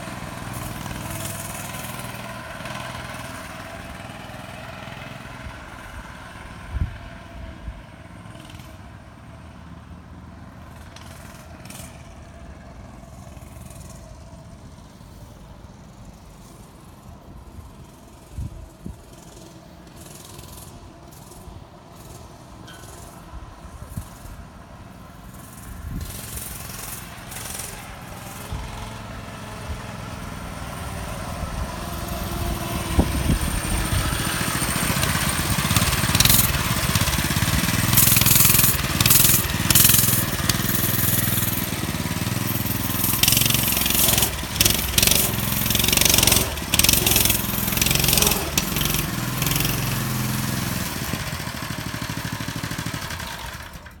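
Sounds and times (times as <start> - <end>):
mini bike engine revving: 0.0 - 9.8, 10.4 - 54.0.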